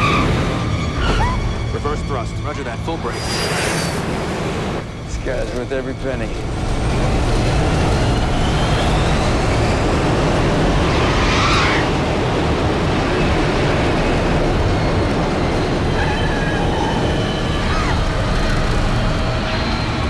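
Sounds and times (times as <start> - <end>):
jet engines in reverse thrust: 0.0 - 20.0.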